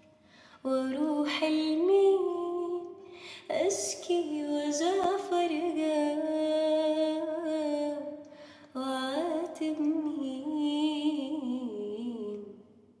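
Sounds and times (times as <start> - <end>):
woman singing unaccompanied: 0.6 - 12.7.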